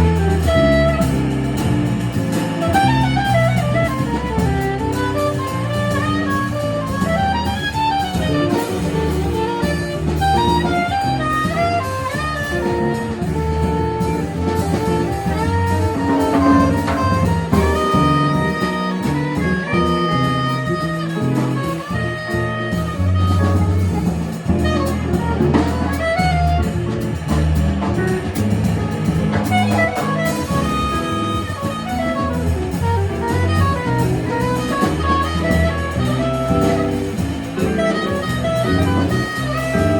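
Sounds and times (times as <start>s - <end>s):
jazz quartet playing: 0.0s - 39.9s.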